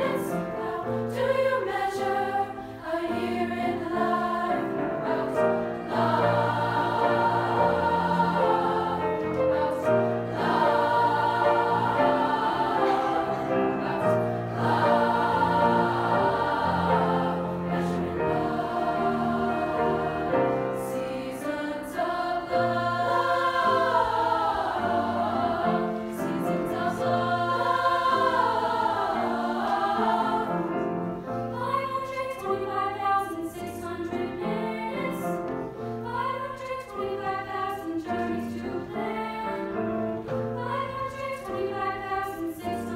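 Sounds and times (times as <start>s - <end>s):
girls' choir singing: 0.0s - 42.9s.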